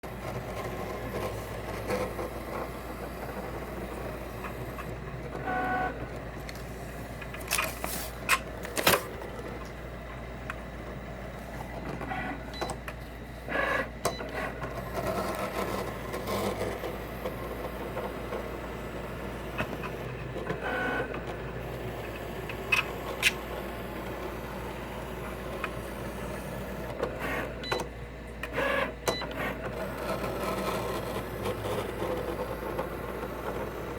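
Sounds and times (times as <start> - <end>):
cutting machine motors whirring: 0.0 - 33.9.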